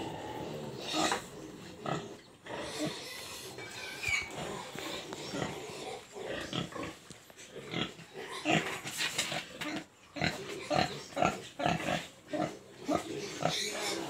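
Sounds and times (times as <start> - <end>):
pigs grunting: 0.0 - 14.0.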